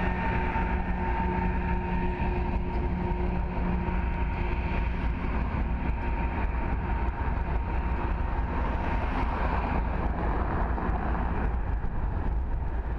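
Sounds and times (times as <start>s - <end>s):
diesel locomotives: 0.0s - 12.9s
steady high whine: 0.0s - 12.9s.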